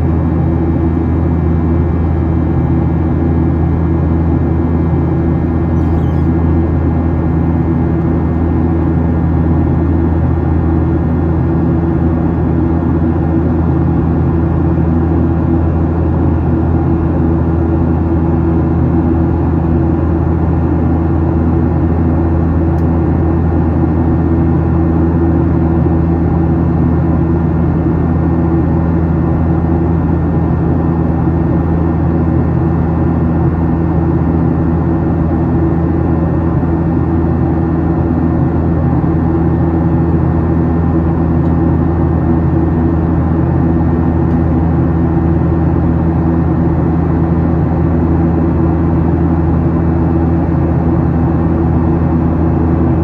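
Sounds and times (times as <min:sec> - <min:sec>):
constant low hum: 0:00.0 - 0:53.0
jet engines and airflow in cabin: 0:00.0 - 0:53.0.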